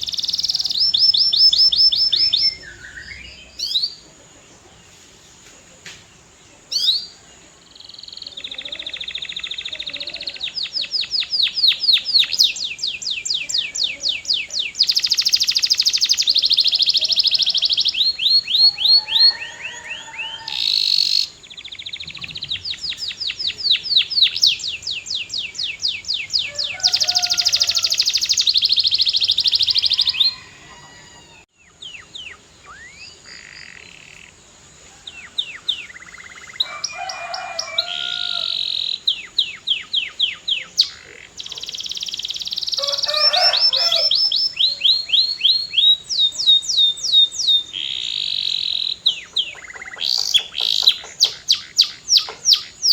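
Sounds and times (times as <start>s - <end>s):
canary singing trills: 0.0s - 4.8s, 6.6s - 52.9s.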